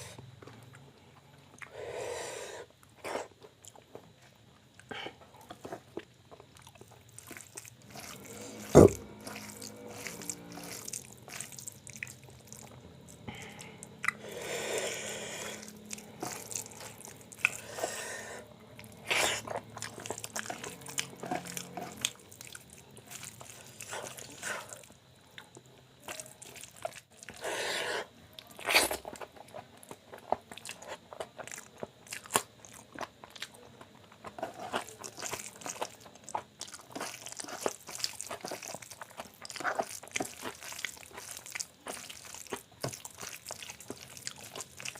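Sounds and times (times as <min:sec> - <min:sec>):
crunchy chewing: 0:02.7 - 0:44.9.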